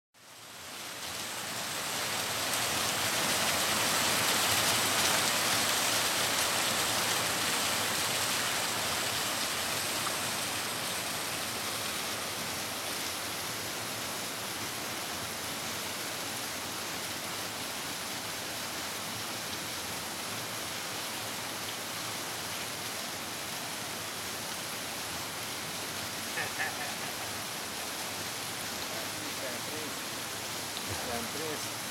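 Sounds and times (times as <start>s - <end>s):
stream rushing over rocks: 0.2s - 31.9s.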